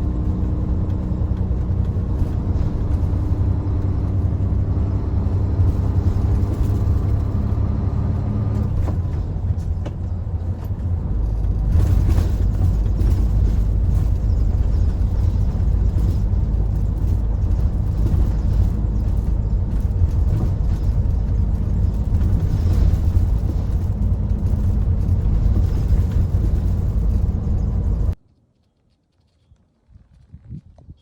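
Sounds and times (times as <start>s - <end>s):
heavy truck engine rumbling: 0.0s - 28.2s.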